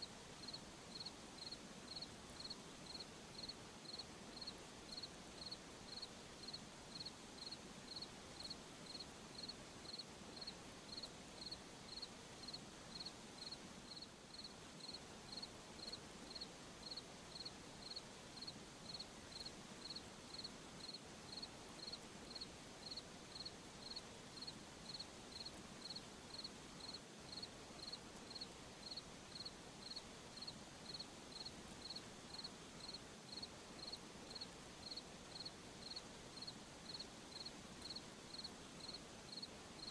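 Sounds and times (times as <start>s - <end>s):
faint night background hiss: 0.0s - 39.9s
cricket chirping: 0.4s - 39.9s.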